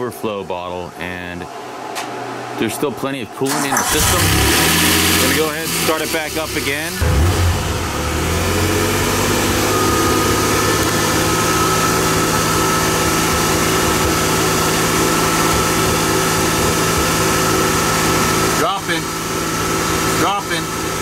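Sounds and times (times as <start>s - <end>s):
car engine idling: 3.5s - 21.0s.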